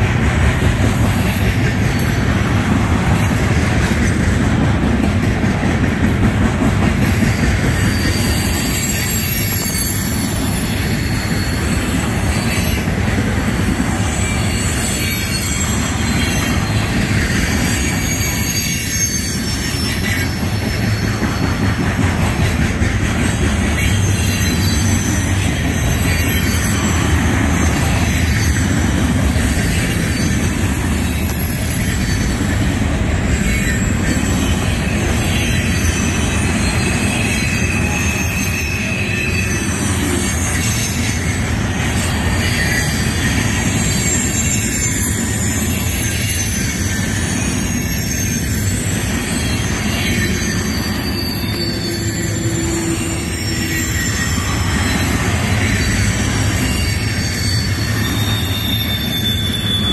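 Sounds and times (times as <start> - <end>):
steel wheels rumbling on rail: 0.0 - 59.9
high-pitched wheel squeals: 6.9 - 59.9.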